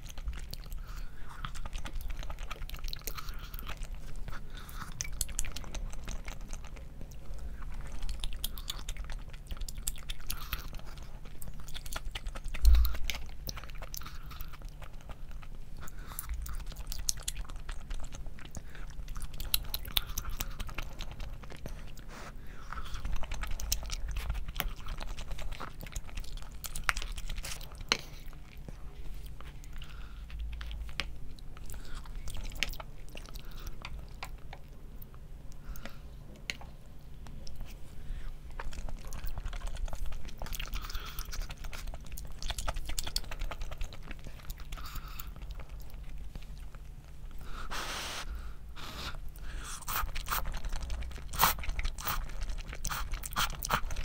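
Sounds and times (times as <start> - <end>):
low steady hum: 0.0 - 54.0
person chewing and biting food: 0.0 - 54.0.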